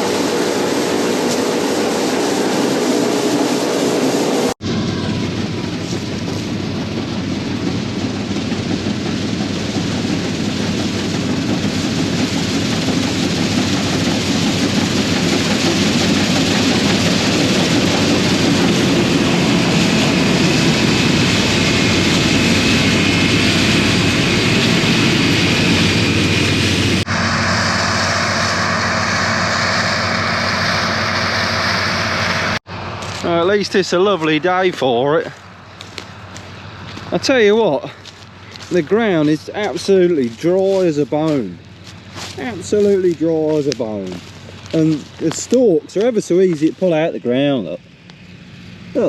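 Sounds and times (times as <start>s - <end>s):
combine harvester running: 0.0s - 49.0s.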